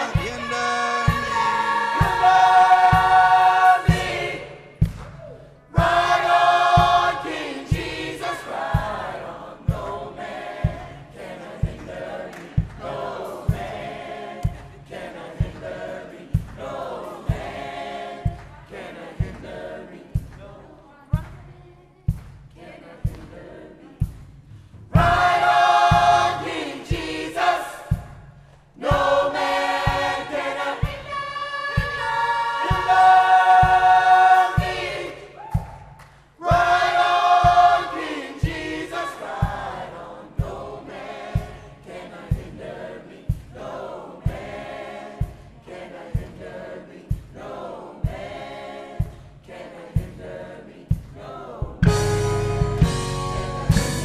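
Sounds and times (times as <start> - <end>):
gospel choir singing: 0.0 - 21.4, 22.0 - 54.0
low beat thump: 0.0 - 31.2, 31.8 - 54.0.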